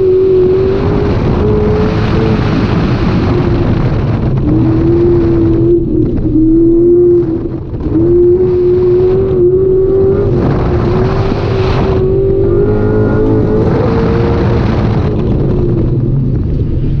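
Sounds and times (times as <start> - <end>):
car engine running hard: 0.0 - 17.0
rushing noise: 0.0 - 17.0.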